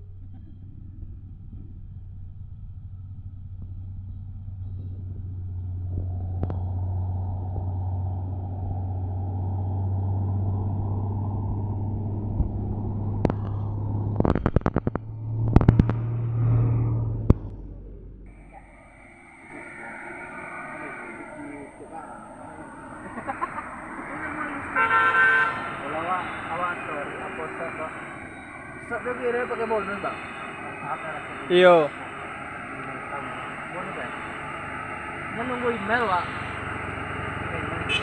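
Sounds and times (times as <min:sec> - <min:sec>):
diesel truck engine labouring: 0:00.0 - 0:38.0.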